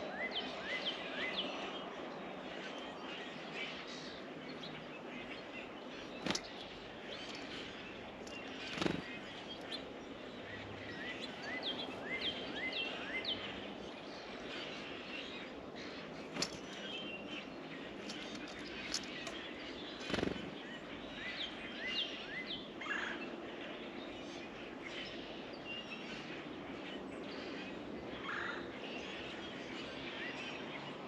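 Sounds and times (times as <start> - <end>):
songbirds chirping: 0.0 - 31.0
steady background hiss: 0.0 - 31.0.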